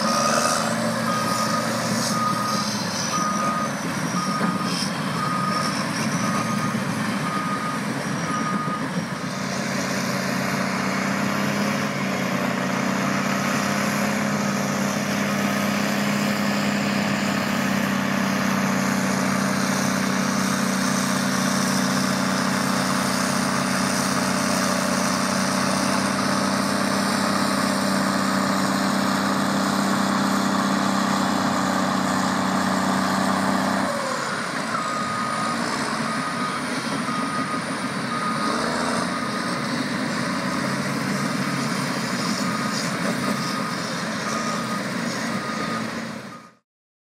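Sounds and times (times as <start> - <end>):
bulldozer diesel engine running: 0.0 - 46.6
reversing alarm beeping: 0.0 - 46.6.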